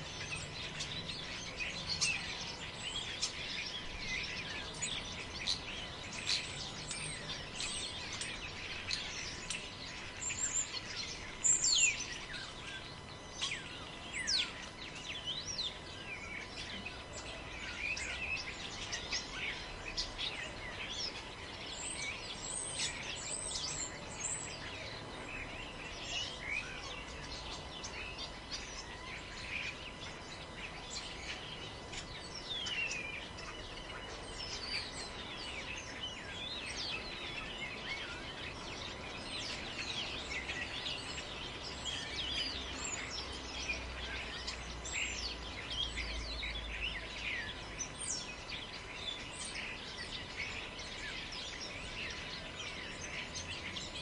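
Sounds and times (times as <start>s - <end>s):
forest birds chirping: 0.0s - 54.0s.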